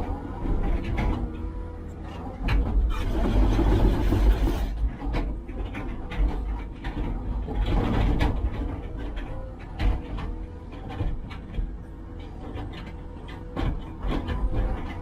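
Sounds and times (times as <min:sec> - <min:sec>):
diesel engine deep rumble: 0:00.0 - 0:15.0
knocks and clanks: 0:00.5 - 0:15.0.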